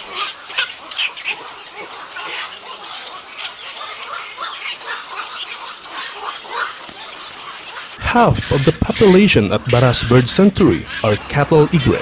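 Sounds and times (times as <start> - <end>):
egrets squawking: 0.0 - 12.0.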